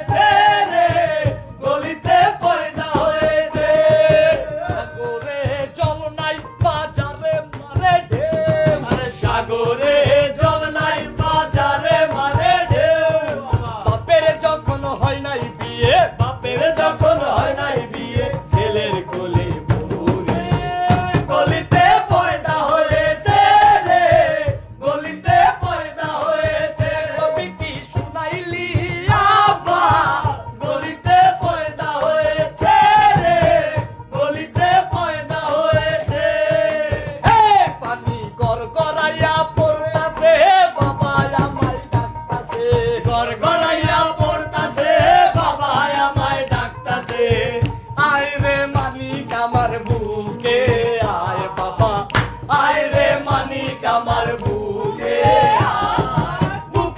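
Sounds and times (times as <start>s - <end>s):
hand-played barrel drum: 0.0s - 56.9s
man singing loudly: 0.0s - 56.9s.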